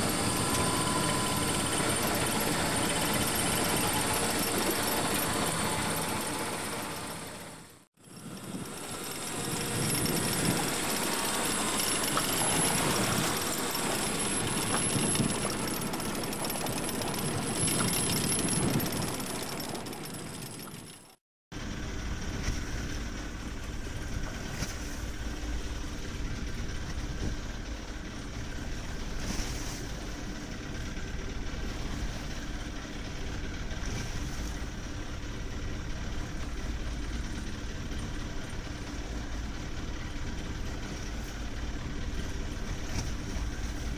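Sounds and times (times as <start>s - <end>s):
boat engine running: 0.0s - 43.9s
wind and water noise: 0.0s - 43.9s.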